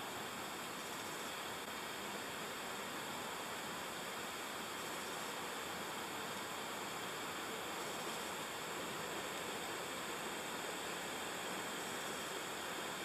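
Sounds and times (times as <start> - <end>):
stream water running over rocks: 0.0 - 13.0.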